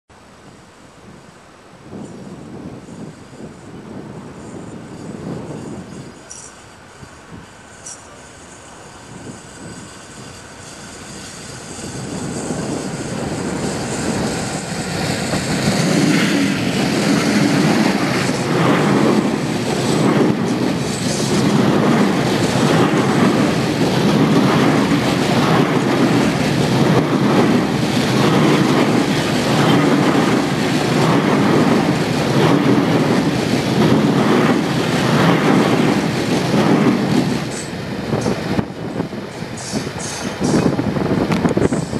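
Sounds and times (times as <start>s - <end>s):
diesel locomotive engine: 0.2s - 41.9s.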